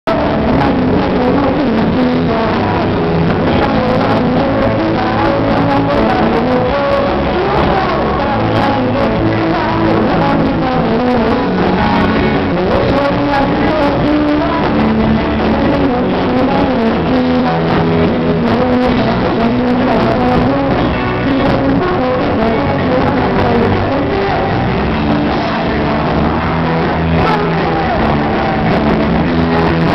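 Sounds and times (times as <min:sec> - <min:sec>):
live rock band with electric guitar: 0:00.0 - 0:29.9.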